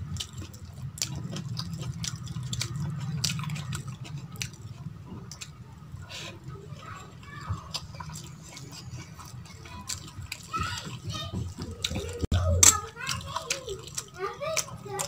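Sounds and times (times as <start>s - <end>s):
wet chewing with mouth clicks: 0.0s - 15.0s.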